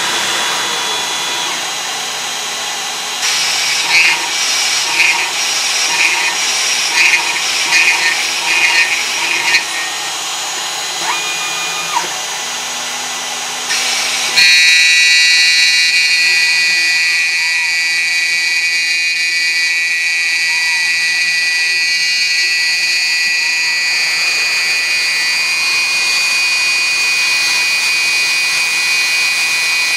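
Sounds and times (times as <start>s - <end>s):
high machine whine: 0.0s - 29.9s
milling machine cutting plastic: 0.0s - 29.9s.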